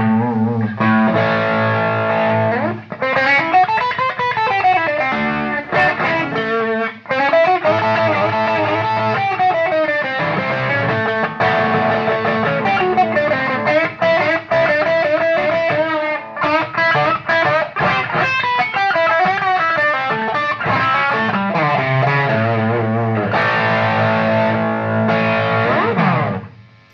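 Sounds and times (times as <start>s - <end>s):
distorted electric guitar: 0.0s - 26.9s.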